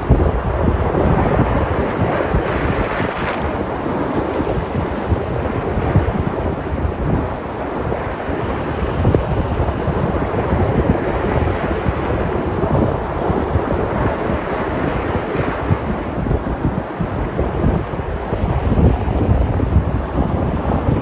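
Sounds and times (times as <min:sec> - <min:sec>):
surf breaking on shore: 0:00.0 - 0:21.0
wind buffeting microphone: 0:00.0 - 0:21.0.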